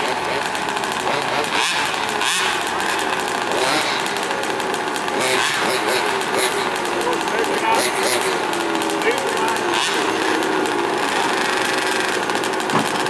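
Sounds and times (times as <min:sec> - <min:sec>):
small two-stroke engines revving: 0:00.0 - 0:13.0.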